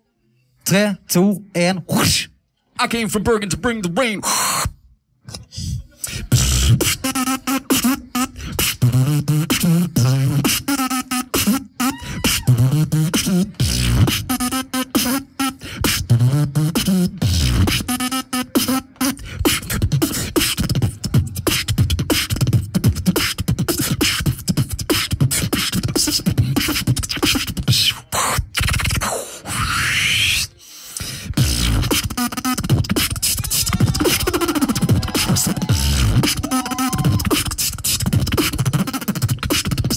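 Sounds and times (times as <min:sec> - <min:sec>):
person beatboxing: 0:03.4 - 0:39.9.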